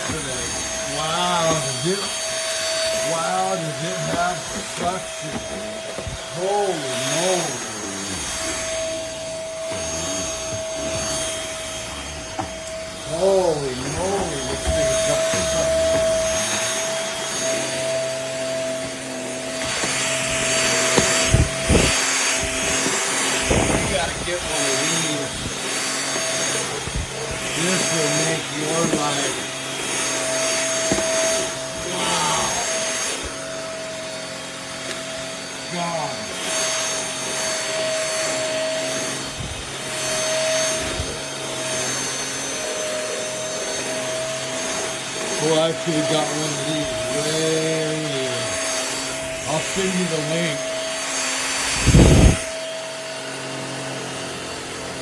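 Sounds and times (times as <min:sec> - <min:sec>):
vacuum motor whining: 0:00.0 - 0:55.0.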